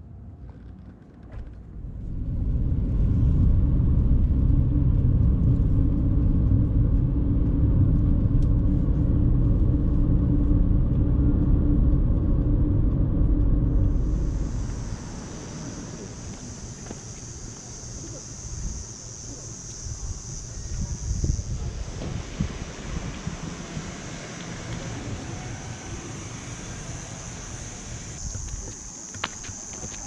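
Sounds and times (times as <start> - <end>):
steady low rumble: 1.4 - 28.9.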